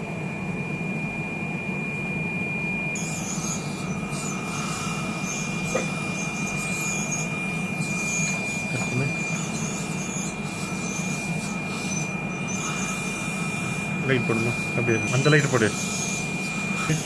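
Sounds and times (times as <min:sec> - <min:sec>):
dental equipment whine: 0:00.0 - 0:17.0.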